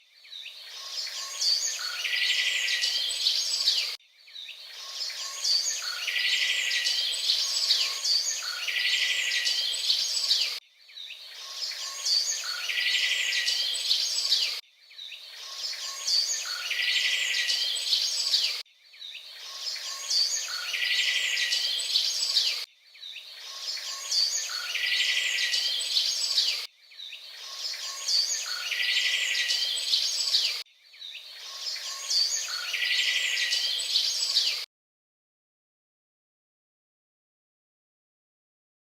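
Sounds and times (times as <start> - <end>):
birds chirping and trilling: 0.0 - 34.7.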